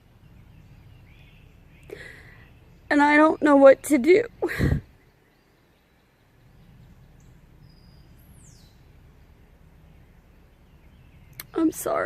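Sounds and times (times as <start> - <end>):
bird calls: 0.0 - 12.0
faint low rumble: 0.0 - 12.0.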